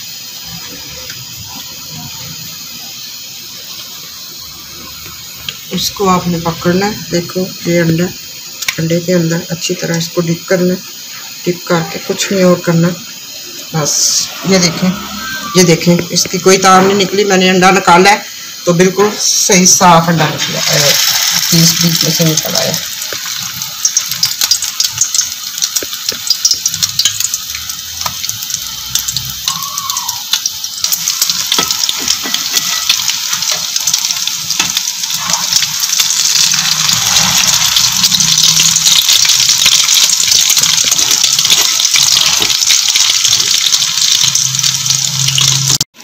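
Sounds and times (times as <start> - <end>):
chicken frying in hot oil: 0.0 - 46.0.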